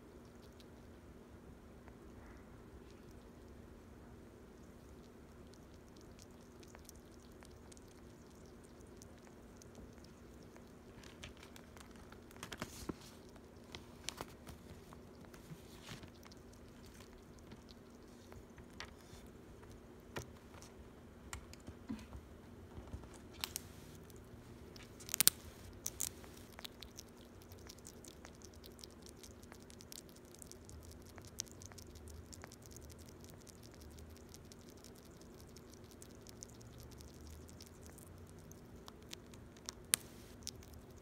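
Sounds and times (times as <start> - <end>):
faint steady hum: 0.0 - 41.0
pet chewing and crunching treat: 4.5 - 20.8, 22.8 - 41.0.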